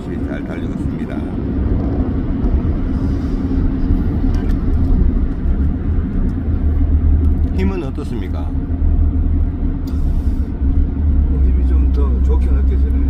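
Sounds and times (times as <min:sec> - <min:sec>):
engine and road noise rumble: 0:00.0 - 0:13.0.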